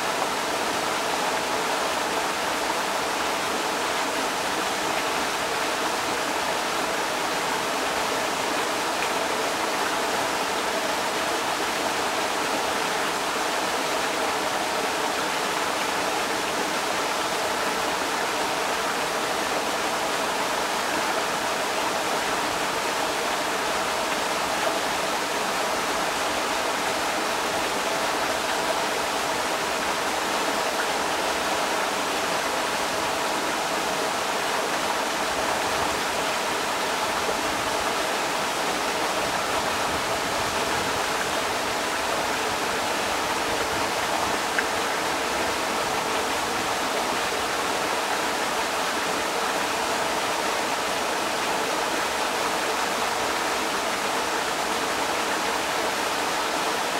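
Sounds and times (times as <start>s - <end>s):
creek water rushing: 0.0s - 56.9s.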